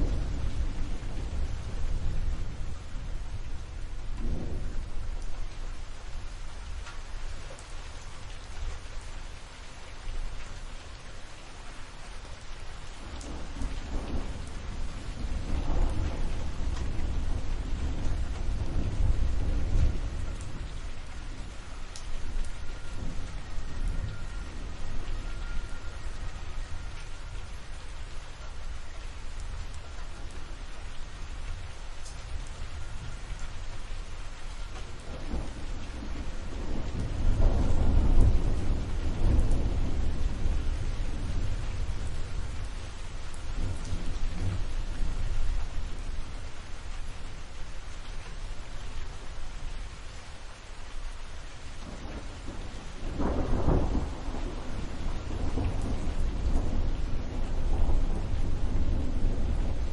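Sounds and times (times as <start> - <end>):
rolling thunder: 0.0 - 6.2, 12.9 - 47.4, 51.8 - 59.9
steady rain: 0.0 - 59.9.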